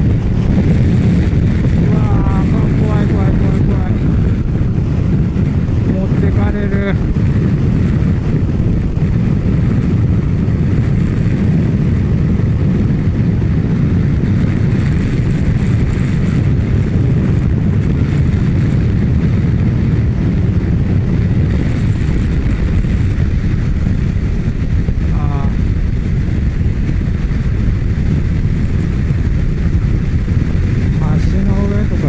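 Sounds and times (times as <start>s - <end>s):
motorcycle running: 0.0s - 32.0s
wind rushing over microphone: 0.0s - 32.0s.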